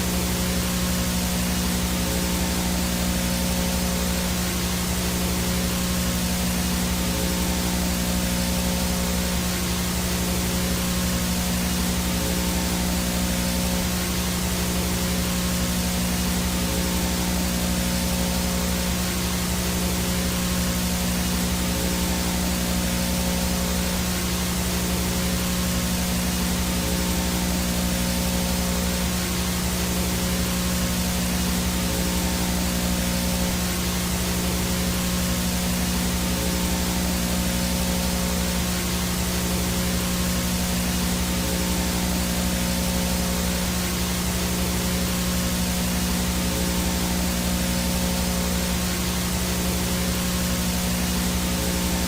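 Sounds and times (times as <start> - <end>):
tape static hiss: 0.0 - 52.0.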